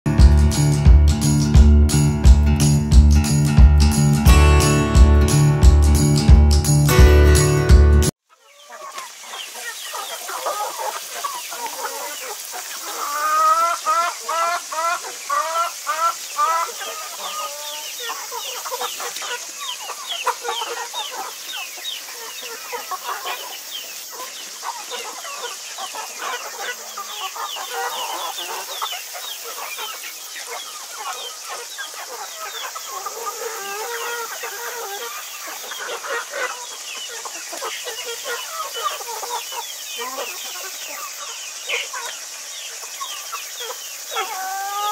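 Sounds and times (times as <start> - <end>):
chickens clucking: 6.9 - 44.9
chicken repeated loud calls: 8.3 - 44.9.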